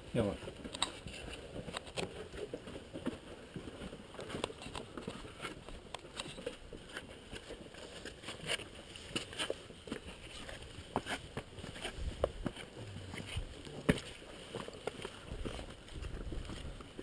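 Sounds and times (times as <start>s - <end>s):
footsteps on trail: 0.2s - 17.0s.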